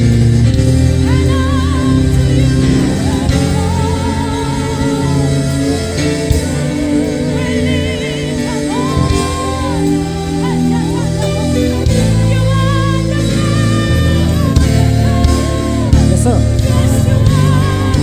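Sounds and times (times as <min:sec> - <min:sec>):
band chords: 0:00.0 - 0:18.0.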